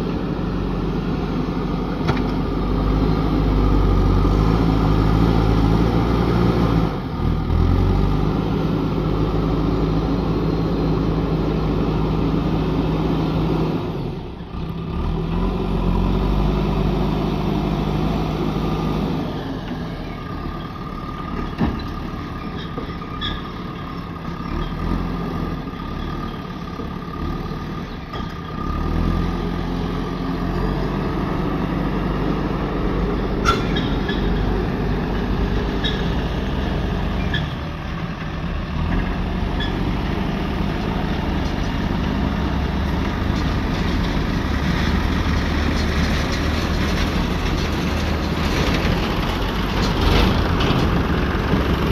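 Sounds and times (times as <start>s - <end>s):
diesel engine working: 0.0s - 51.9s
tractor engine running: 0.0s - 51.9s.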